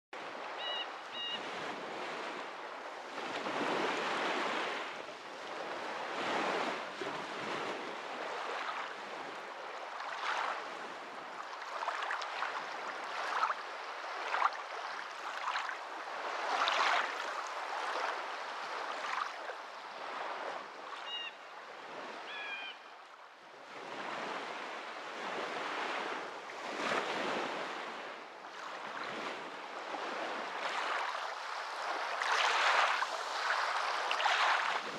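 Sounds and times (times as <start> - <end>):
sea waves washing in: 1.1 - 20.7, 23.8 - 34.9.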